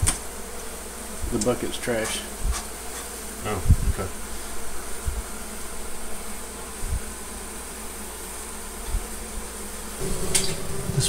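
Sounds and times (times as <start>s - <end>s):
honey bees humming: 0.0s - 11.0s.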